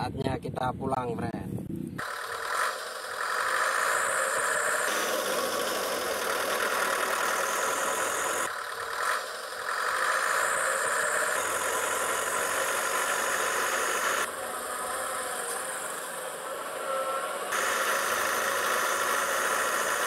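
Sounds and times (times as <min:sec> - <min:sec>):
small motors whirring: 0:02.0 - 0:20.0.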